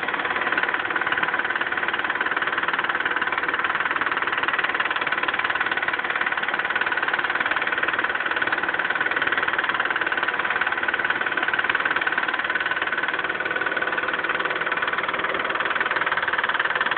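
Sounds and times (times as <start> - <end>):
car engine idling with ticking: 0.0 - 16.9.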